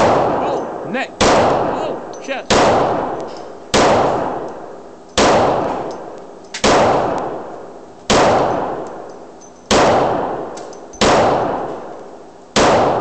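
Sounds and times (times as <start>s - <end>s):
pistol shots: 0.0s - 9.1s, 9.7s - 11.9s, 12.5s - 13.0s.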